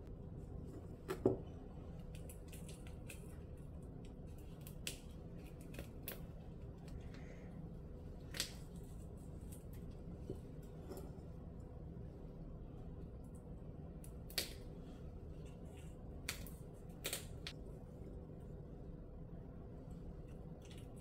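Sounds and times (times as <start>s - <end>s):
crumbly mixture crunching and scraping: 0.4s - 18.1s.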